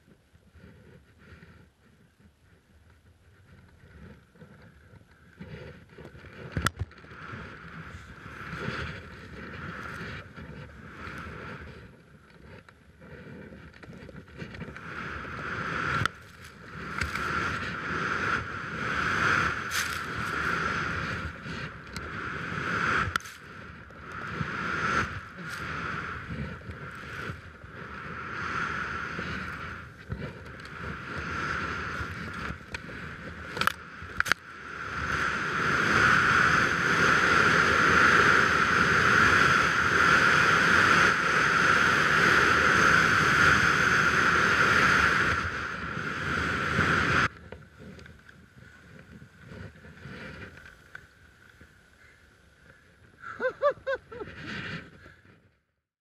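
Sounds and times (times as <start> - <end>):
wind rushing over microphone: 5.3 - 50.7
skis hissing through snow: 7.1 - 13.6, 14.2 - 55.3.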